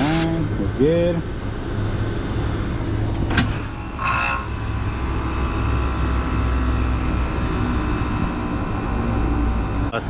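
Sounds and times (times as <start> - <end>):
condensing unit humming: 0.0 - 10.0.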